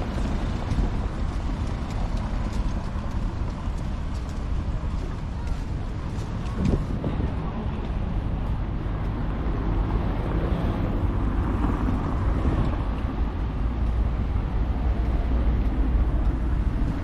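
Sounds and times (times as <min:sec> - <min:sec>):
faint traffic: 0:00.0 - 0:17.0
wind rumble on microphone: 0:00.0 - 0:17.0.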